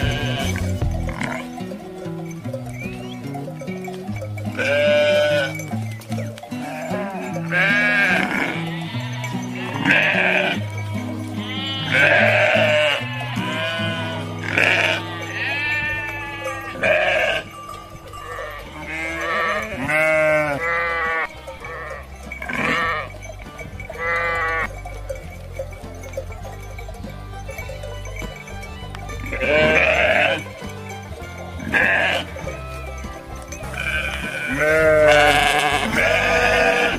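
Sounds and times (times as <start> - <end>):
background music of low notes: 0.0 - 36.9
sheep bleating: 0.0 - 36.9.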